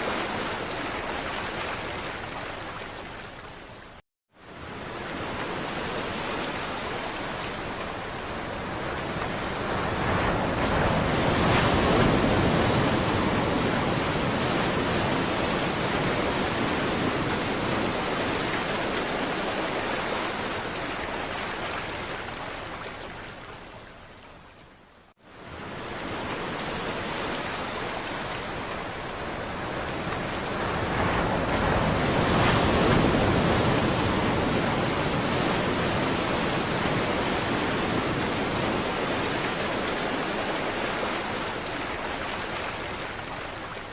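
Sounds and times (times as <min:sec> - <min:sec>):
ocean surf washing ashore: 0:00.0 - 0:03.6, 0:04.4 - 0:23.9, 0:25.2 - 0:43.9.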